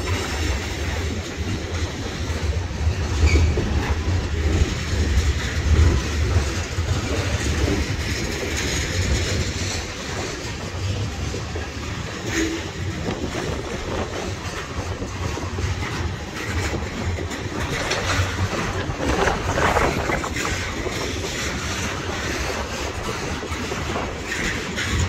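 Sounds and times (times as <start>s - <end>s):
freight train rolling past: 0.0s - 25.0s
wind buffeting microphone: 0.0s - 25.0s.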